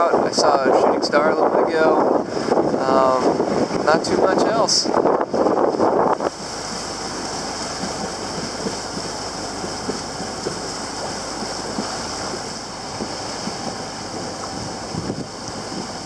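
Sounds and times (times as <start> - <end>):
water rushing along boat hull: 0.0 - 16.0
wind buffeting microphone: 0.0 - 16.0.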